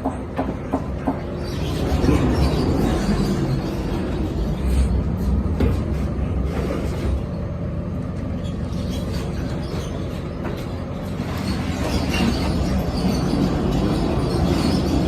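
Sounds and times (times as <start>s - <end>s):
heavy vehicle rumbling: 0.3s - 15.0s.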